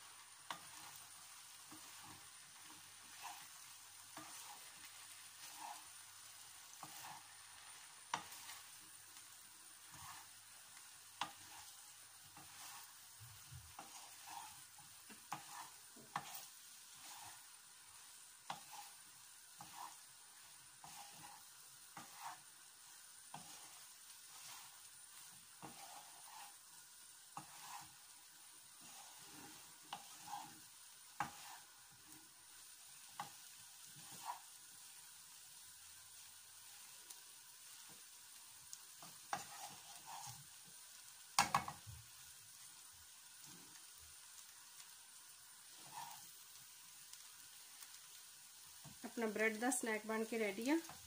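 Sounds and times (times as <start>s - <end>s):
spatula tapping and scraping pan: 0.0s - 35.1s, 38.7s - 42.0s, 45.5s - 48.0s, 48.7s - 49.1s, 50.2s - 51.0s
low steady sizzle: 0.0s - 51.0s.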